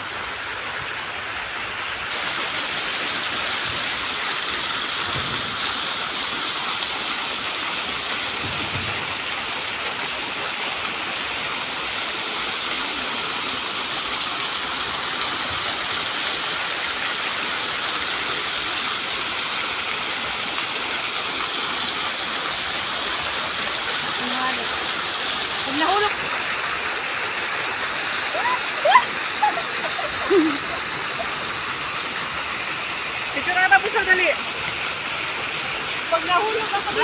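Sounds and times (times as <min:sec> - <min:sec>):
fountain water splashing: 0:00.0 - 0:37.0.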